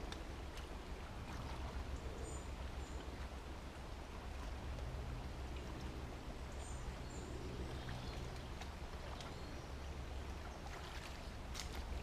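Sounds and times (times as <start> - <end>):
brook water trickling: 0.0 - 12.0.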